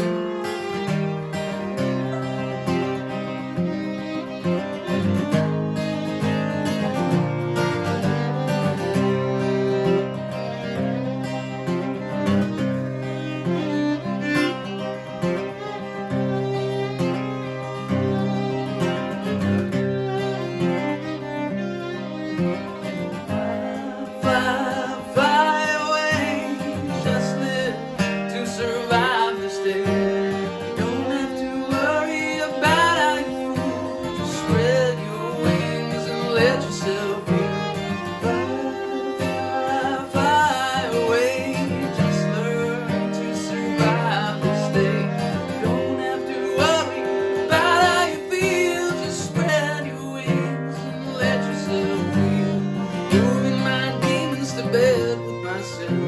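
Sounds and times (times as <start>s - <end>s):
fiddle melody: 0.0s - 56.0s
strummed acoustic guitar: 0.0s - 56.0s.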